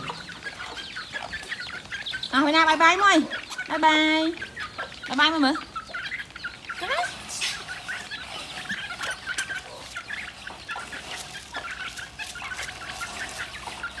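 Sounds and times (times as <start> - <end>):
chicks cheeping: 0.0 - 14.0
hens clucking: 0.0 - 14.0.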